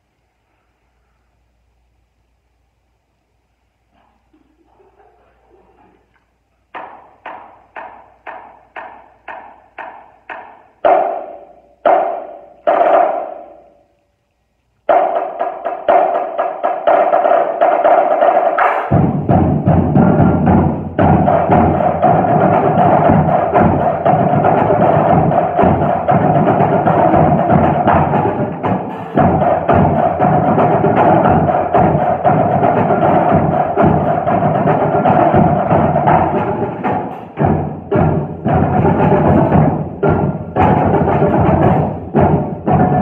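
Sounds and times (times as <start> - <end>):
low drum notes: 3.6 - 43.0
drum line playing: 6.6 - 13.8, 14.8 - 43.0.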